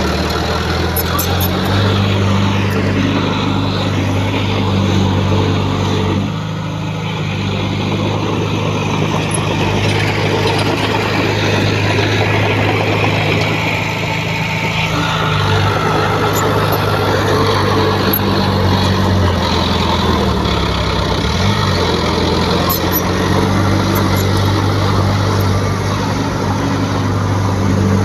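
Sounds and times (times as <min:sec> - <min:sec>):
diesel engine running under load: 0:00.0 - 0:28.0.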